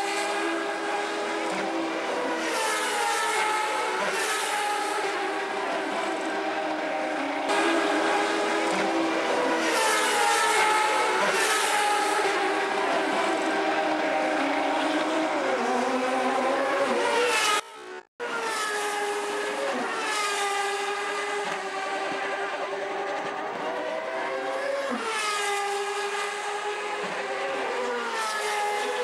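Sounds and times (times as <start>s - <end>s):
race cars passing by: 0.0s - 29.0s.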